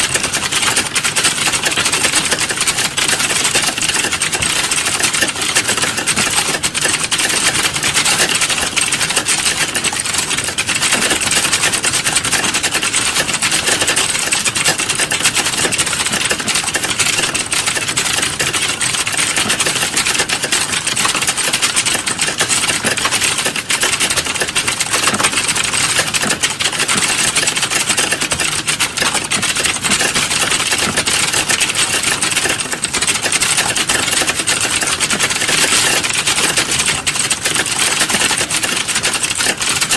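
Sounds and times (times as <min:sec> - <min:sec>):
fast typing on computer keyboard: 0:00.0 - 0:39.9.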